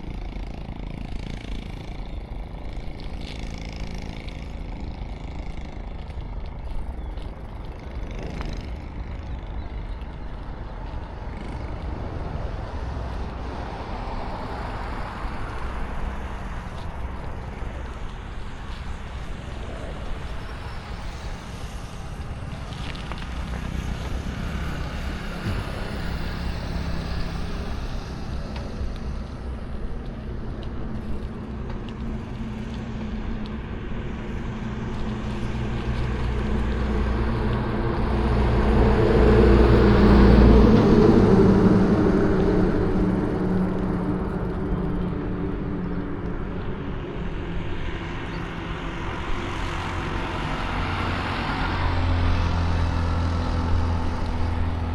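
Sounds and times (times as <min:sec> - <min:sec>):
traffic hum: 0:00.0 - 0:54.9
vehicle passing close: 0:10.8 - 0:54.9.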